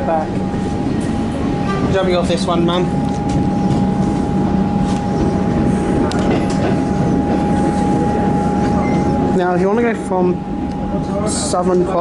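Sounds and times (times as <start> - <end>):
high-pitched whine: 0.0 - 12.0
train equipment hum: 0.0 - 12.0.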